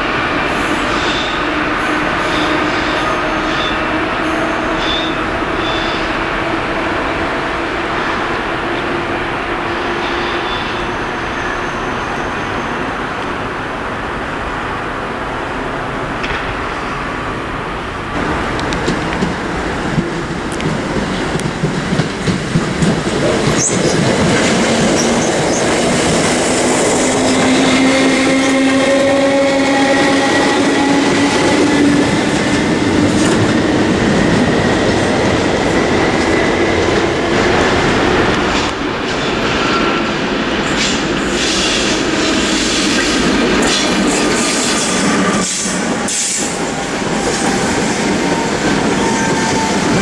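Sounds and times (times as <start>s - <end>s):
electric train wheels on rails: 0.0s - 50.0s.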